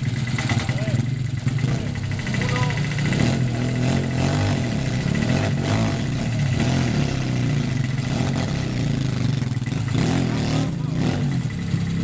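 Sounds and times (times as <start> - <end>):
small engine running hard: 0.0 - 12.0.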